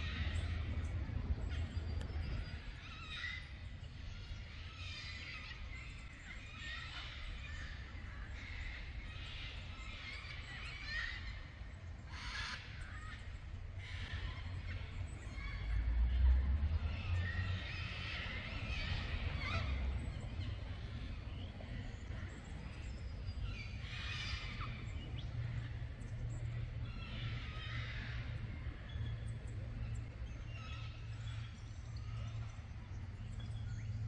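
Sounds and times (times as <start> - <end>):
birds calling: 0.0 - 34.0.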